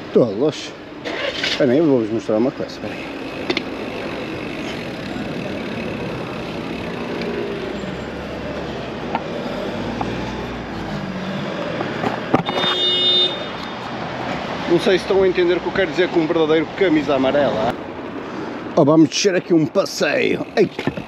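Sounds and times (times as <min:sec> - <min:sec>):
car engines and tyre noise: 0:00.0 - 0:21.0.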